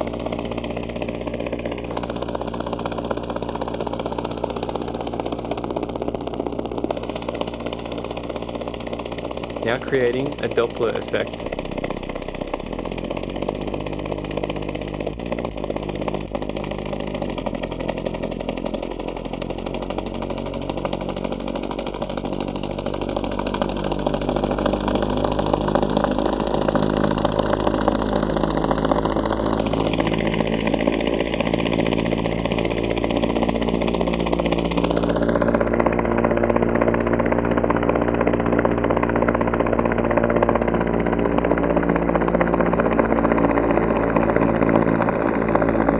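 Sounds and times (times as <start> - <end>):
synthesized helicopter drone: 0.0 - 45.9.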